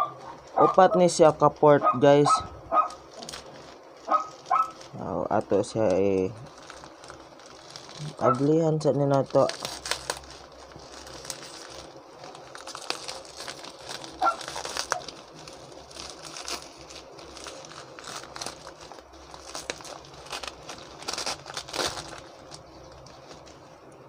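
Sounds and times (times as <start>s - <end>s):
bubble wrap and plastic crinkling: 0.0s - 24.0s.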